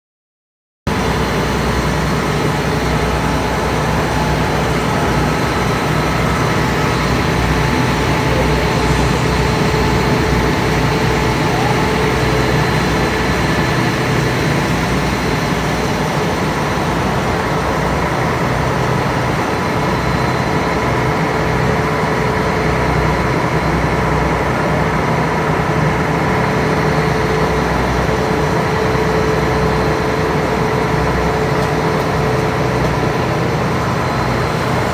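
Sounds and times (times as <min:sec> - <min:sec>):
ferry engine rumbling: 0:00.9 - 0:34.9.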